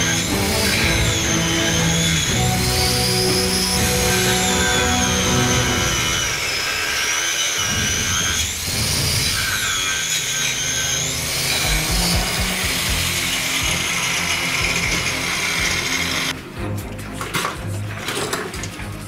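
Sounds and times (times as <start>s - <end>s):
angle grinder cutting plastic: 0.0s - 16.3s.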